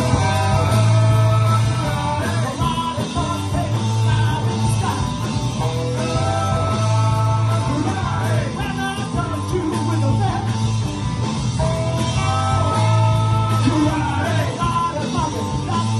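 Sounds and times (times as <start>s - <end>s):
person singing: 0.0s - 10.5s, 11.6s - 15.9s
rock band playing: 0.0s - 15.9s.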